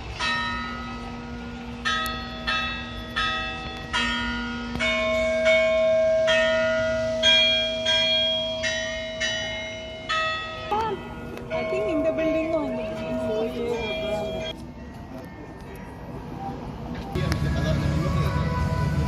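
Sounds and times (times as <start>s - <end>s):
bells ringing a slow tune: 0.0s - 16.7s.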